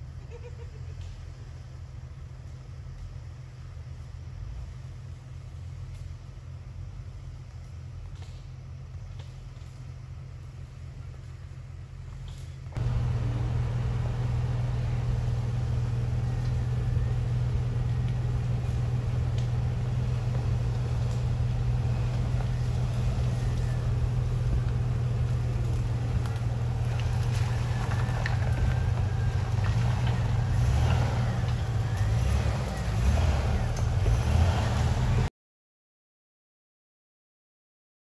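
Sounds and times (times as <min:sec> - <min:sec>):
car engine running at low speed: 0:00.0 - 0:35.3.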